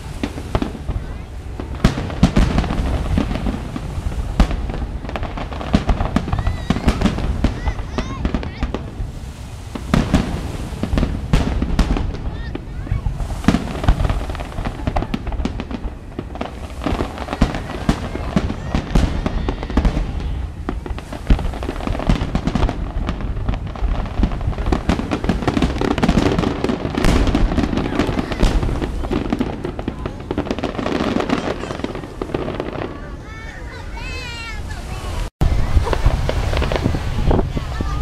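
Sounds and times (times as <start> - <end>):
firework bangs and crackling: 0.0 - 38.0.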